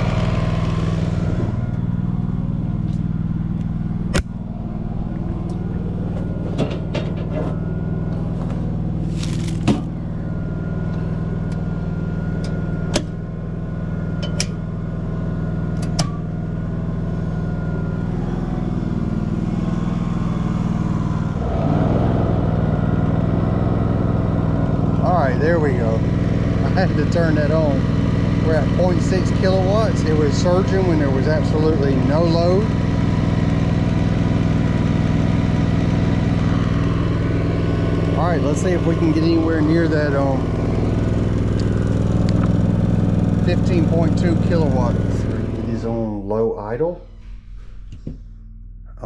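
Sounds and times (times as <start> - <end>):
generator running: 0.0 - 49.0.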